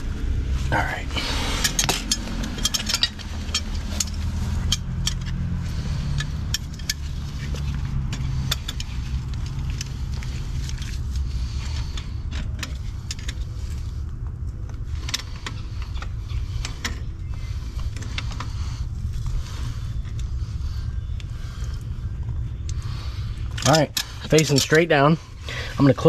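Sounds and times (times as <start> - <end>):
steady low rumble: 0.0 - 26.0
small metal clicks and scrapes: 1.6 - 20.4, 22.6 - 25.0.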